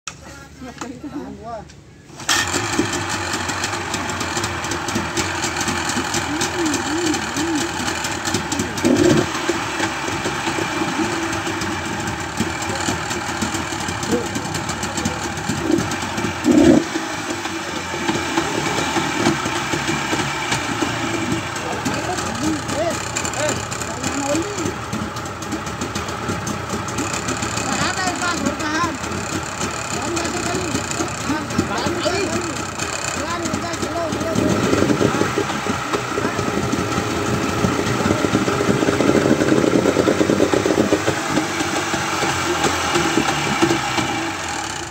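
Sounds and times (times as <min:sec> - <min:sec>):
outboard motor running: 0:02.0 - 0:44.9.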